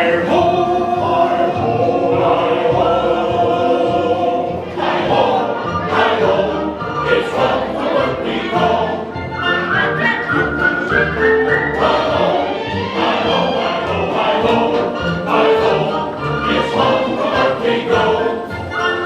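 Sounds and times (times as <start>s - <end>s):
choir singing held notes: 0.0s - 19.0s
orchestral accompaniment: 0.0s - 19.0s.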